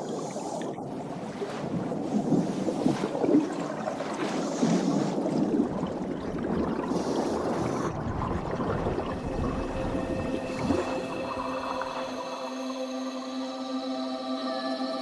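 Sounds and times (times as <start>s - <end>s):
rushing gurgling water: 0.0s - 13.0s.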